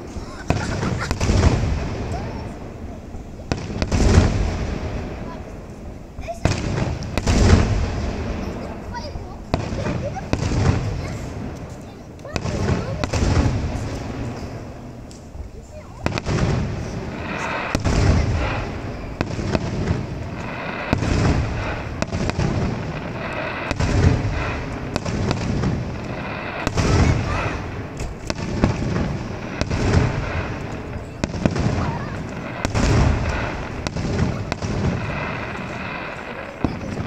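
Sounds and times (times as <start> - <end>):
firework shells booming: 0.0 - 37.0
fireworks crackling: 0.0 - 37.0.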